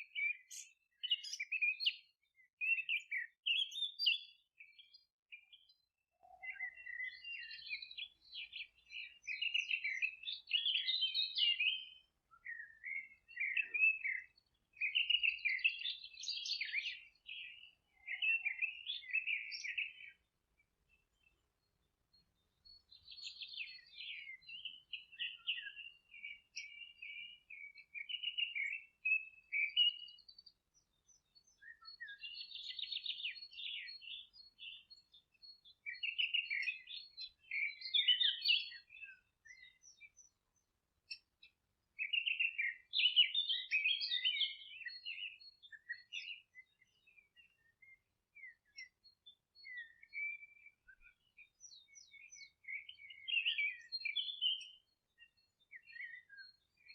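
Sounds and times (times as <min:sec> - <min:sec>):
songbirds twittering and trilling: 0:00.0 - 0:56.9.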